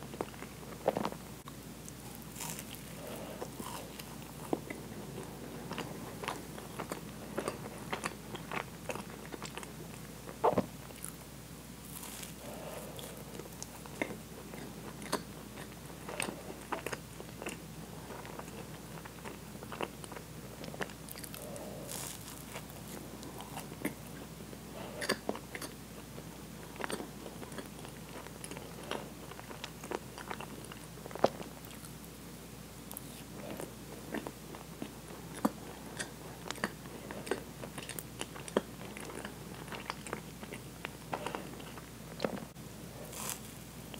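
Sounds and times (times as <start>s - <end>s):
close-up chewing: 0.0s - 32.0s, 32.9s - 43.9s.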